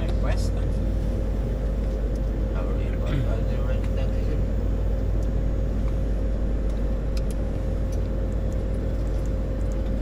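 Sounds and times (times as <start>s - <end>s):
jet engine rumble and hum: 0.0s - 10.0s.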